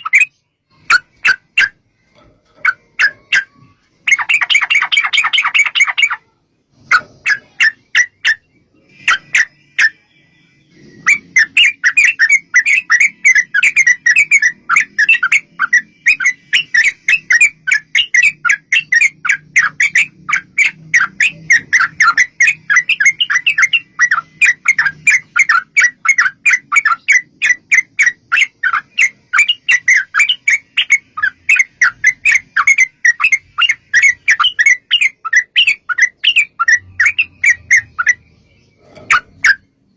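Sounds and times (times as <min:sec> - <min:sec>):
bird chattering: 0:00.0 - 0:10.1, 0:10.7 - 0:39.9.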